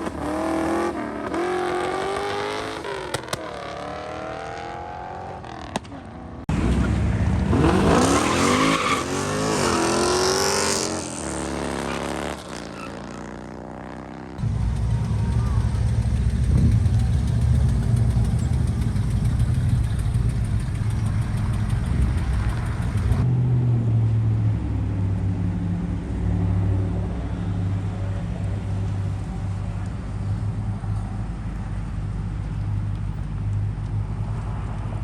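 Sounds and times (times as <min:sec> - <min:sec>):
car engines running: 0:00.0 - 0:35.0.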